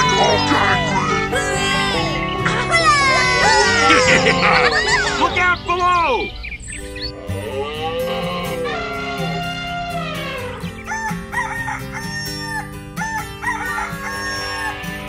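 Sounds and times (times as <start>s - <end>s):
background music sustained notes: 0.0s - 15.0s
long arching animal call: 0.0s - 15.0s.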